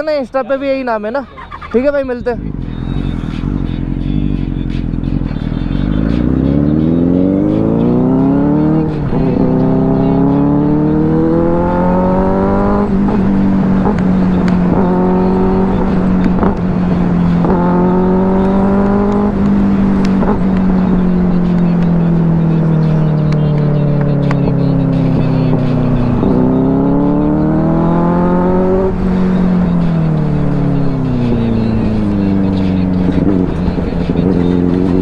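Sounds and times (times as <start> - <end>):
motorcycle engine accelerating: 1.2 - 35.0.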